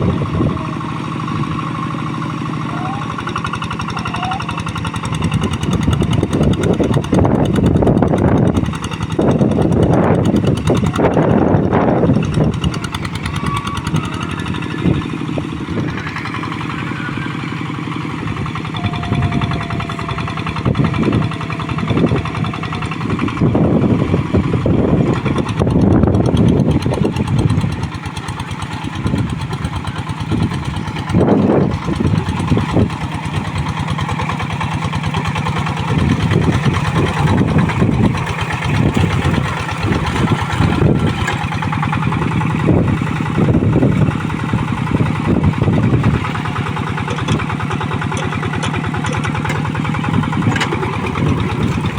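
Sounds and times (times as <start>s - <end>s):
diesel tractor engine under load: 0.0s - 51.9s.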